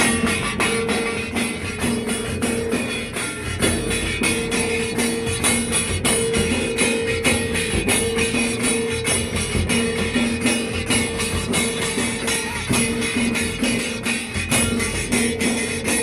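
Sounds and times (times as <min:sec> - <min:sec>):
dhol drums fast beat: 0:00.0 - 0:16.0
jingling percussion: 0:00.0 - 0:16.0.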